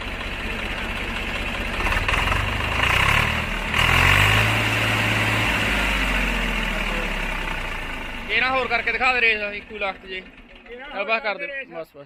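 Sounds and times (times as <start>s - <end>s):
tractor diesel engine revving: 0.0s - 11.4s.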